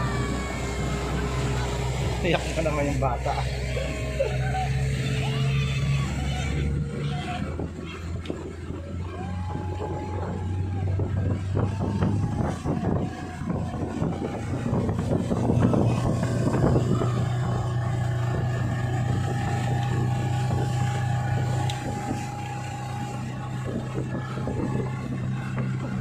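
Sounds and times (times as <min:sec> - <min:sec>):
outboard motor running: 0:00.0 - 0:26.0
rushing wash of wake: 0:00.0 - 0:26.0
wind: 0:00.0 - 0:26.0.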